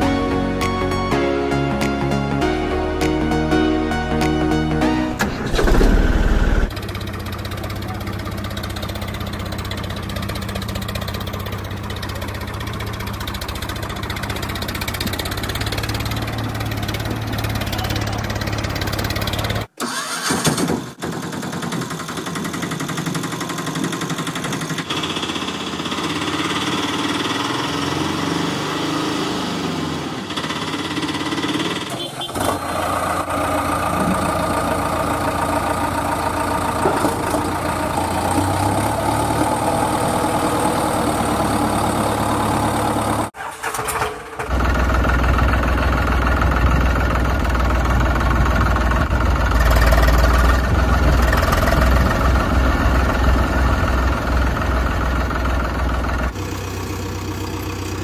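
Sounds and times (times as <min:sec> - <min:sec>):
vehicle engine running: 0:05.1 - 0:19.8, 0:21.2 - 0:43.4, 0:44.4 - 0:58.0.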